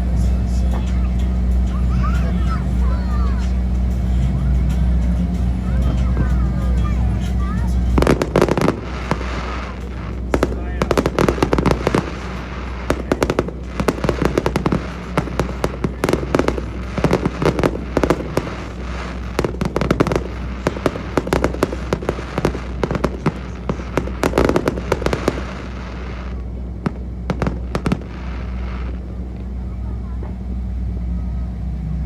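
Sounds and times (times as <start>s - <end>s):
fireworks bangs and crackling: 0.0s - 30.5s
steady low drone: 0.0s - 32.0s.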